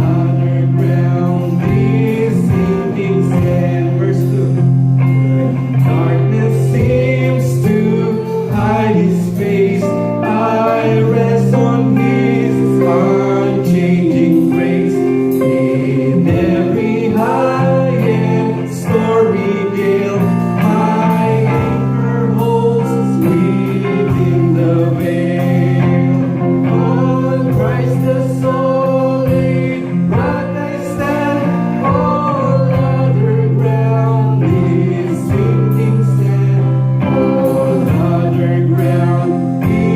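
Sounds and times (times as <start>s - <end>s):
congregation singing a hymn: 0.0s - 39.9s
guitar accompaniment: 0.0s - 39.9s.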